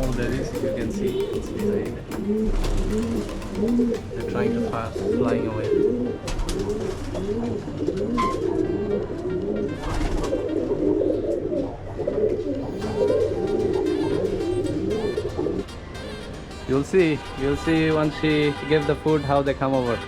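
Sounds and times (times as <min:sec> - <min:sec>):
pigeons cooing: 0:00.0 - 0:16.7.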